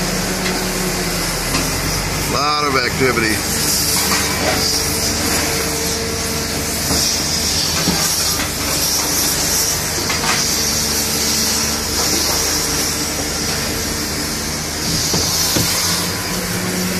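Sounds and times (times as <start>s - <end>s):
diesel engines humming: 0.0s - 16.9s
hydraulic hiss: 0.0s - 16.9s.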